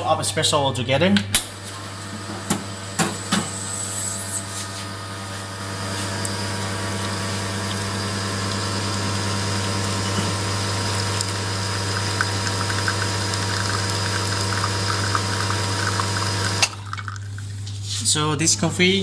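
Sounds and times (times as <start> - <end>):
espresso machine pump humming: 1.5 - 17.8.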